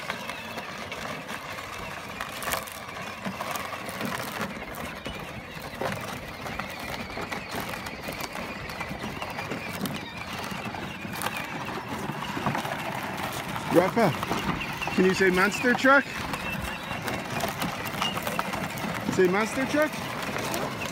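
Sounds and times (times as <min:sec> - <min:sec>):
plastic wheels rattling on dirt: 0:00.0 - 0:20.9.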